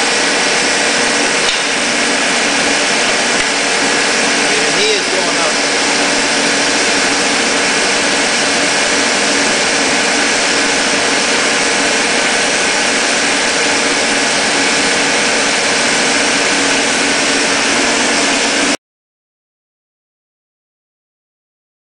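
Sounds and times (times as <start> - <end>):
milling machine humming: 0.0 - 18.8.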